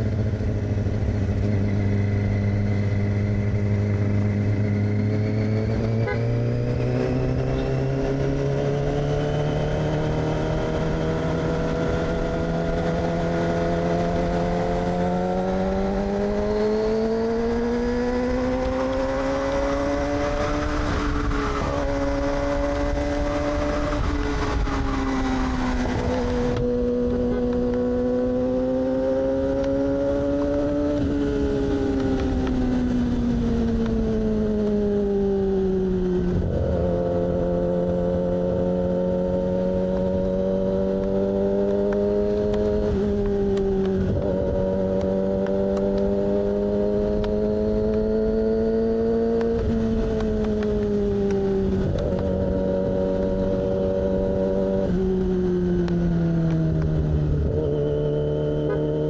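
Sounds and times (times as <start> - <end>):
motorcycle engine running: 7.0 - 59.0.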